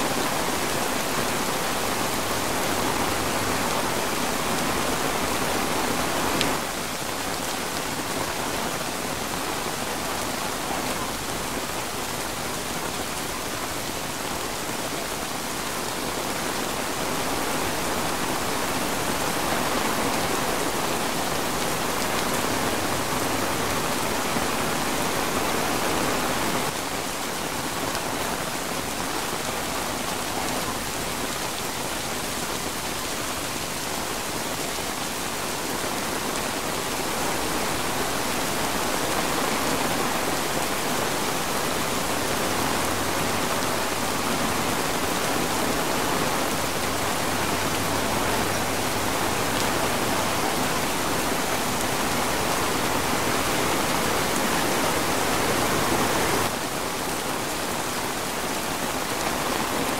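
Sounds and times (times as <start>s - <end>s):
rain on tarp: 0.0s - 59.9s.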